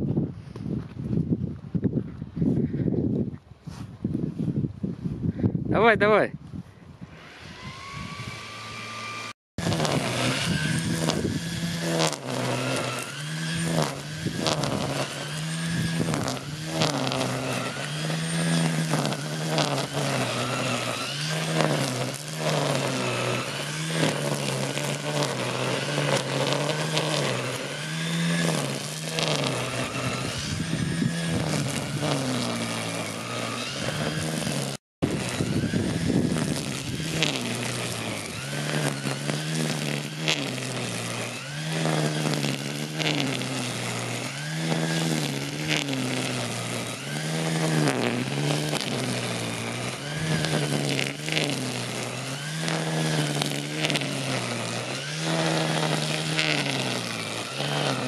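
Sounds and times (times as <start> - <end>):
string trimmer cutting grass: 0.0 - 58.0.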